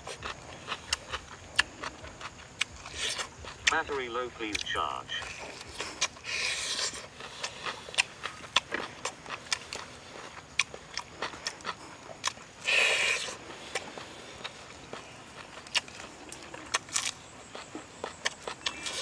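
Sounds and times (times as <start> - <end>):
crunchy chewing of ribs: 0.0 - 19.0.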